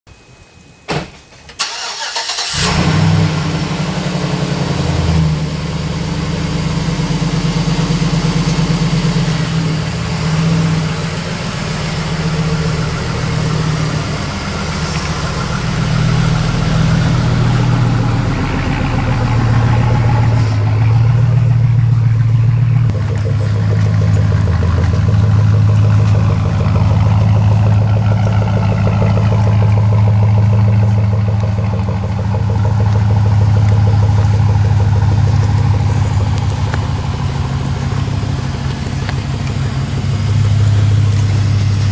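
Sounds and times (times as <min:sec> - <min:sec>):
truck engine starting and revving: 0:01.6 - 0:41.9.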